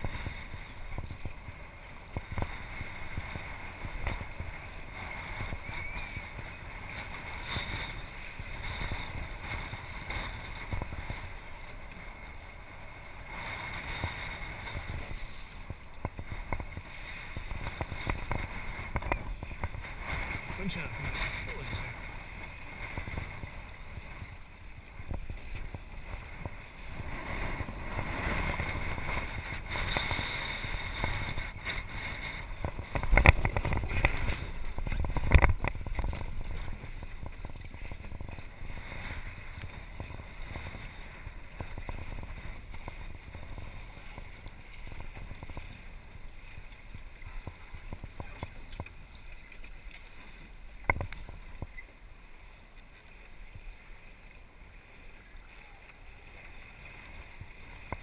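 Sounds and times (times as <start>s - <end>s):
water lapping against hull: 0.0s - 58.0s
wind on microphone: 0.0s - 58.0s.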